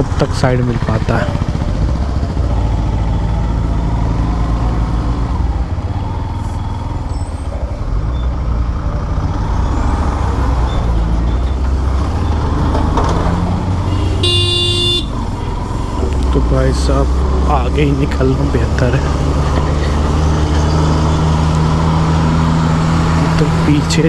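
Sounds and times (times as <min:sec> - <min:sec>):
truck diesel engines rumbling: 0:00.0 - 0:24.0.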